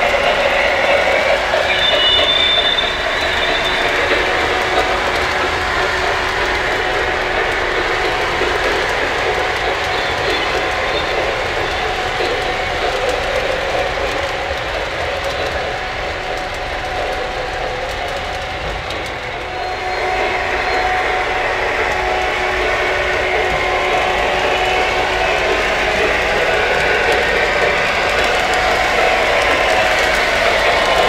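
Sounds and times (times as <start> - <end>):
model train rolling rattle: 0.0 - 31.0.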